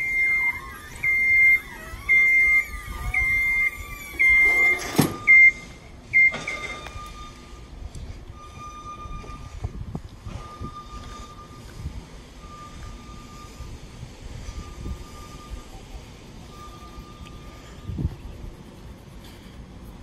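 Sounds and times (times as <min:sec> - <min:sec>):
lift warning alarm beeping: 0:00.0 - 0:18.0
lift motor whine: 0:00.0 - 0:18.4.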